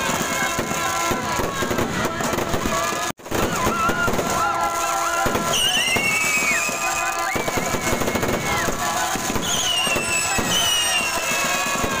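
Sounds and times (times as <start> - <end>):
fireworks crackling and popping: 0.0 - 12.0
fireworks whistling: 0.0 - 12.0.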